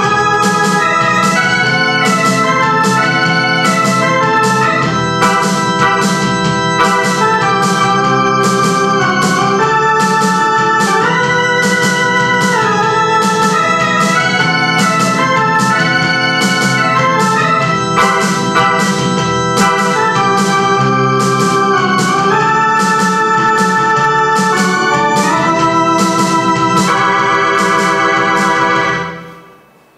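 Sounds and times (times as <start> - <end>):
electronic keyboard melody: 0.0 - 29.9.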